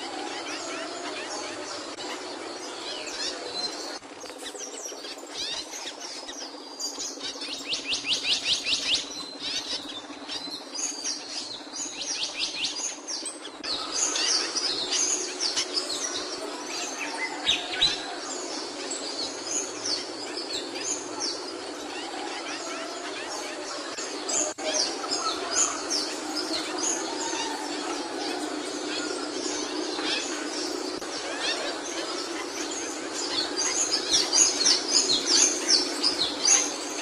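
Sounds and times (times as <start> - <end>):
bird chirping and warbling: 0.0 - 37.0.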